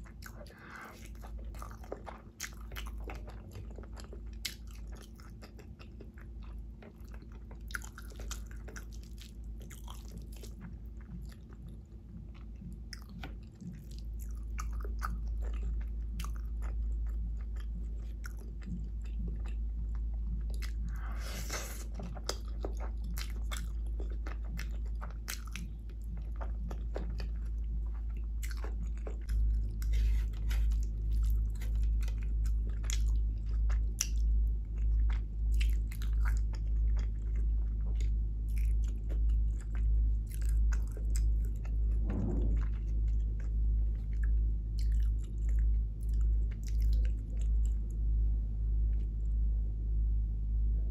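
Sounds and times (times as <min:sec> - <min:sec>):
person chewing food: 0:00.0 - 0:48.1.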